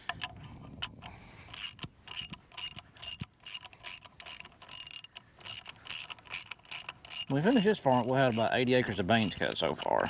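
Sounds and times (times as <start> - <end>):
ratchet wrench clicking: 1.5 - 10.0.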